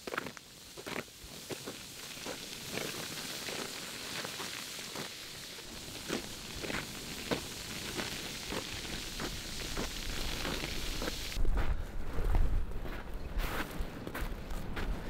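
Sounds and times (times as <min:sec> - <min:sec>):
footsteps through dry grass: 0:00.0 - 0:15.0
steady outdoor hiss: 0:00.0 - 0:15.0.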